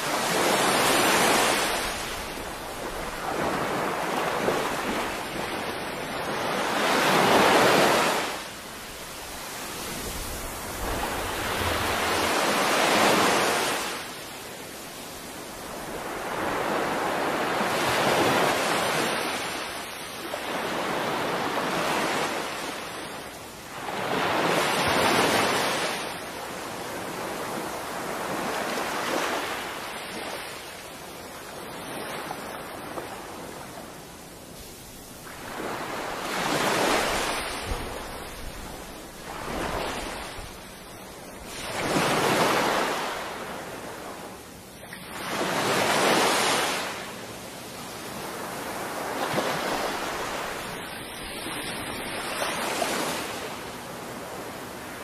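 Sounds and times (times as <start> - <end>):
small waves breaking on shore: 0.0 - 55.0.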